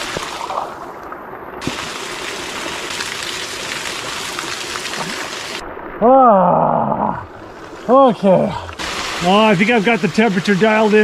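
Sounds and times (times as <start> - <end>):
water pouring into pool: 0.0 - 11.0.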